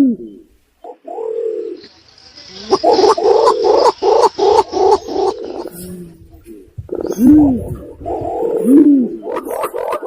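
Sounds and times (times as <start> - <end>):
pigeon cooing: 0.0 - 1.8, 2.6 - 10.0.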